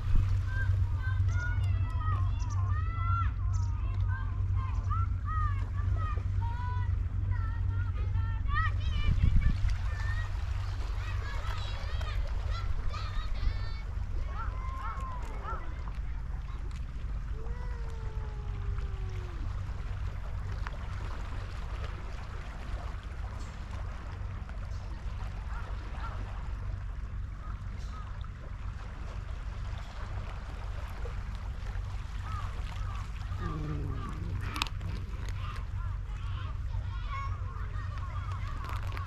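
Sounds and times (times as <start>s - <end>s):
wind buffeting microphone: 0.0s - 23.5s, 29.6s - 39.0s.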